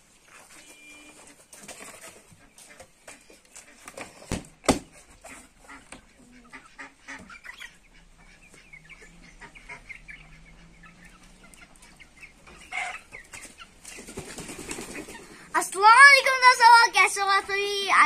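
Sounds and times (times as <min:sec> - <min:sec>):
chickens clucking: 0:00.0 - 0:17.8.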